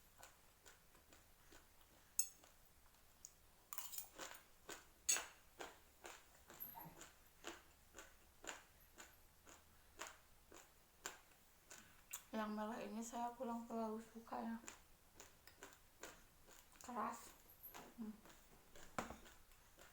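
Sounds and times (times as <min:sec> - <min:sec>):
rice grains crunching when chewed: 0:00.2 - 0:12.3, 0:14.6 - 0:19.9.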